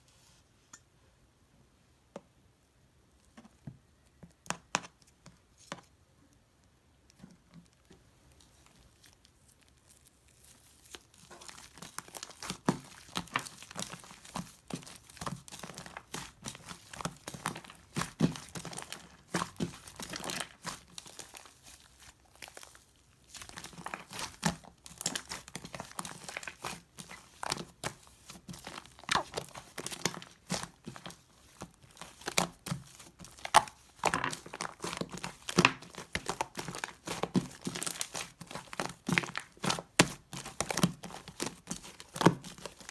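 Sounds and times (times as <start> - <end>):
slime crackling and popping: 7.7 - 42.9.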